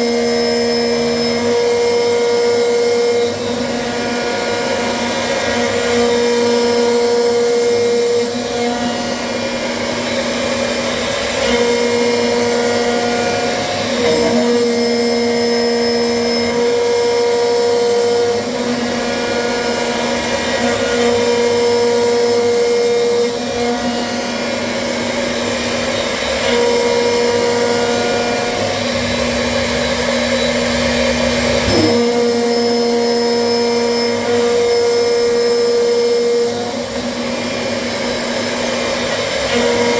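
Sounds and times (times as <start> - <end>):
machine whirring: 0.0 - 39.9.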